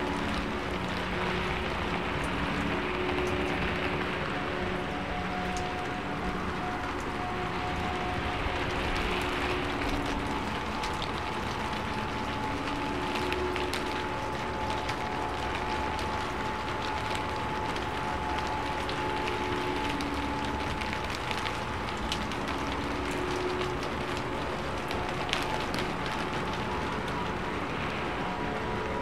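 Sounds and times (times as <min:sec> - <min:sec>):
rain drop ticks: 0:00.0 - 0:29.0
steady rain hiss: 0:00.0 - 0:29.0.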